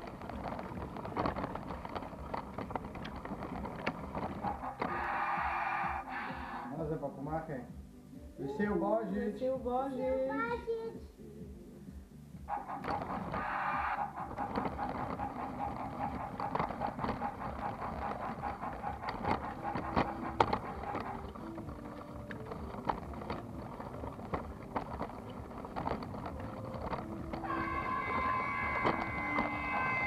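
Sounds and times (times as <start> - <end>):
toy train rattling on wooden track: 0.0 - 6.9, 12.5 - 30.0.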